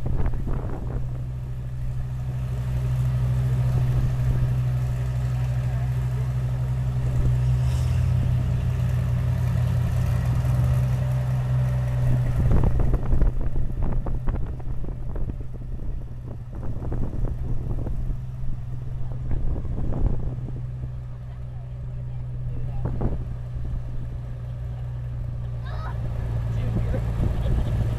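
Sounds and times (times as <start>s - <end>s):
tractor engine droning: 0.0s - 27.9s.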